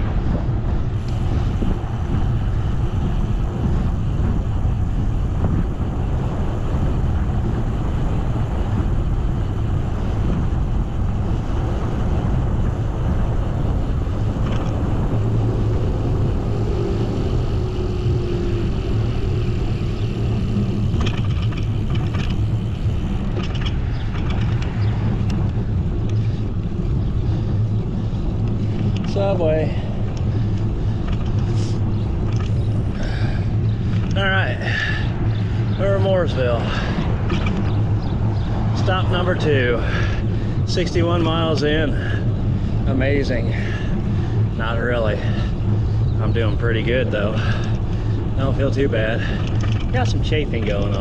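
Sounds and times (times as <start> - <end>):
tyre rumble on road: 0.0 - 51.0
wind on microphone: 0.0 - 51.0.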